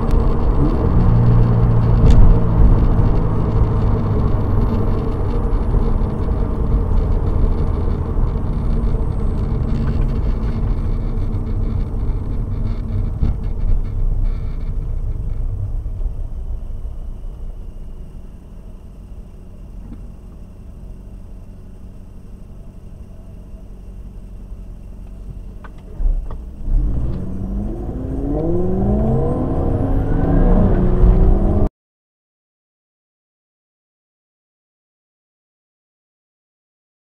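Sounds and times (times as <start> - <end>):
car engine drone: 0.0 - 31.7
road noise inside car: 0.0 - 31.7.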